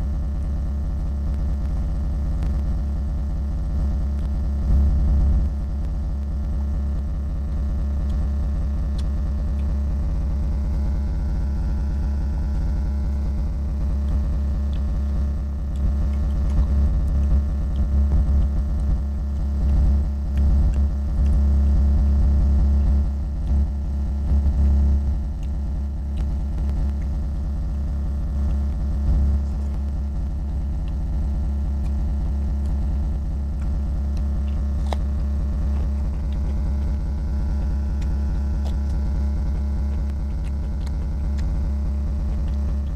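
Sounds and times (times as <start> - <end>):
low electrical hum: 0.0 - 42.9
man chewing and eating: 0.4 - 42.9.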